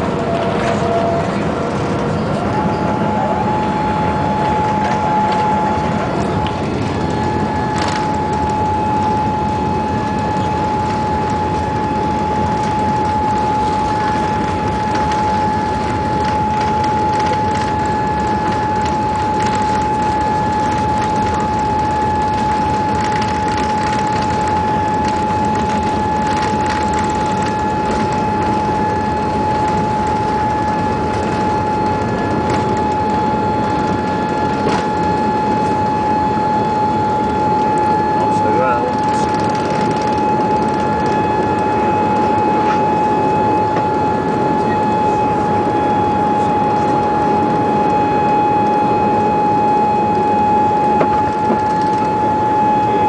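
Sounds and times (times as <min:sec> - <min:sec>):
constant high whine: 0:00.0 - 0:53.0
jet airliner cabin noise: 0:00.0 - 0:53.0.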